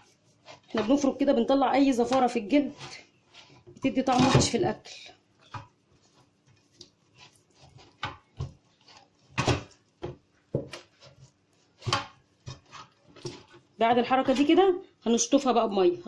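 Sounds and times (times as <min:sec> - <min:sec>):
hands rubbing raw chicken: 0:00.0 - 0:04.2, 0:04.9 - 0:13.8.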